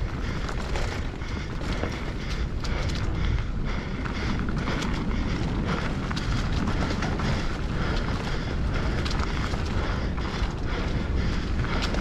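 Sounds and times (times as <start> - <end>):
bike clicking and rattling: 0.0 - 12.0
bike tyre rumble: 0.0 - 12.0.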